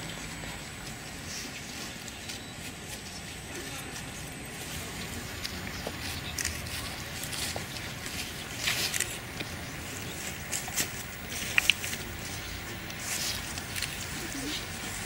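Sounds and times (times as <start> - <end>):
shuffling footsteps: 0.0 - 15.0
steady background hiss: 0.0 - 15.0.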